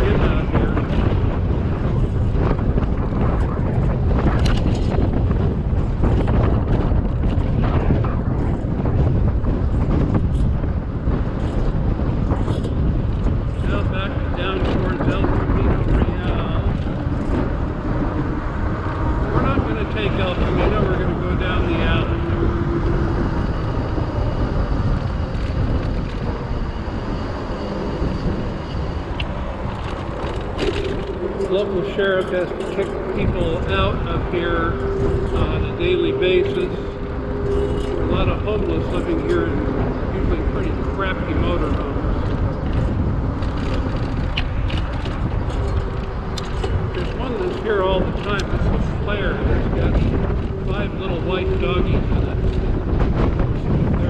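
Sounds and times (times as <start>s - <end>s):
low rumble: 0.0s - 54.0s
wind buffeting microphone: 0.0s - 54.0s.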